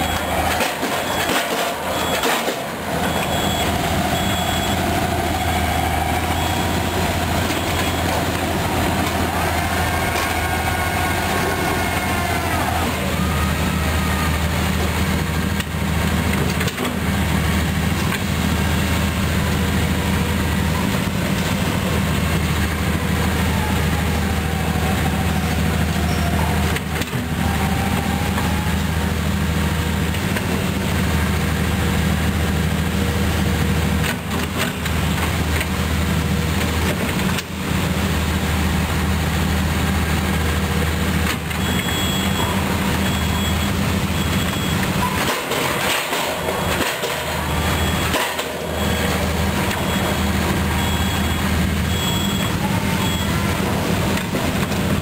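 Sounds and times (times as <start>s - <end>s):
drilling rig engine running: 0.0s - 55.0s
excavator diesel engine running: 0.0s - 55.0s.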